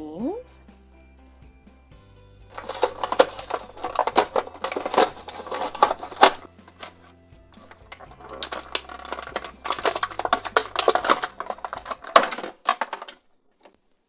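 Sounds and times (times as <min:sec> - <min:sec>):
plastic packaging crinkling: 0:02.5 - 0:13.8.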